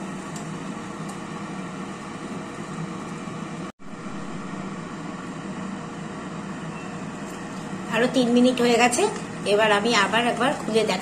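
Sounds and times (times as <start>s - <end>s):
air fryer fan whirring: 0.0s - 11.0s.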